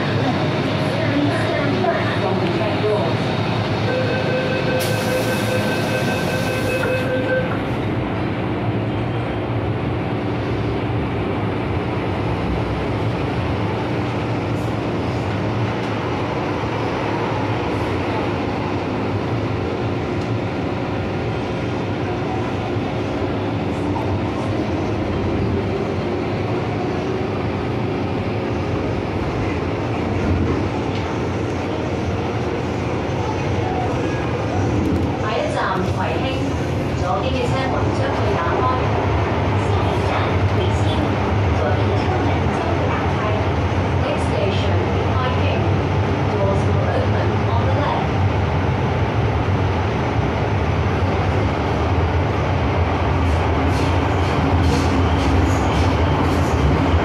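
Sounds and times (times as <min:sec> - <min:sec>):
train wheels rumbling on rails: 0:04.6 - 0:57.0.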